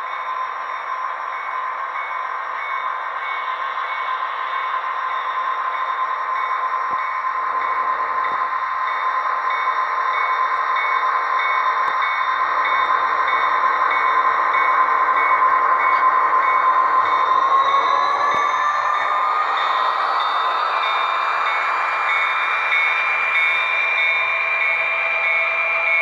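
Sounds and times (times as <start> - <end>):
train whine: 0.0 - 26.0.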